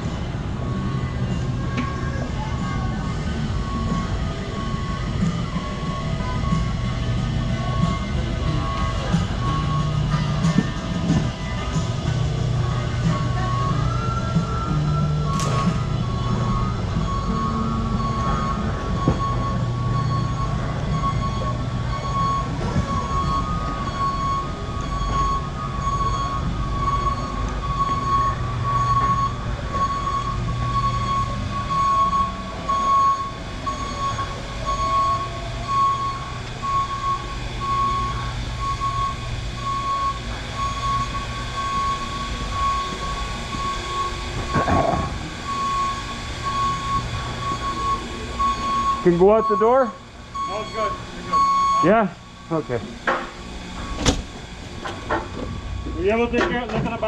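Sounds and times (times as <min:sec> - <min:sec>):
high-pitched tone: 0:00.0 - 0:52.9
machine hum: 0:00.0 - 0:57.0.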